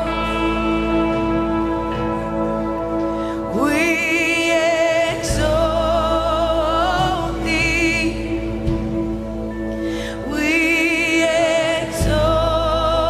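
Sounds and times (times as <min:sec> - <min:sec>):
person singing with vibrato: 0:00.0 - 0:13.0
sustained accompaniment: 0:00.0 - 0:13.0.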